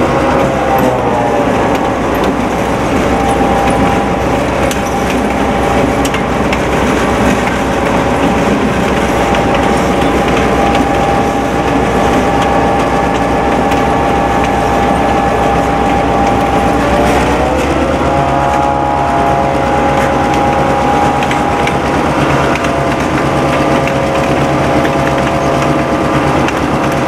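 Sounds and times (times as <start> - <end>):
diesel locomotive engine drone: 0.0 - 27.0
train rolling noise: 0.0 - 27.0.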